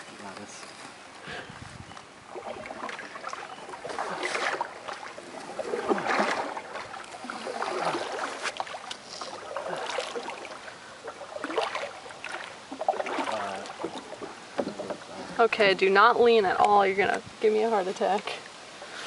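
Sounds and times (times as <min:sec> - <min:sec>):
water splashing against canoe: 0:01.2 - 0:19.0.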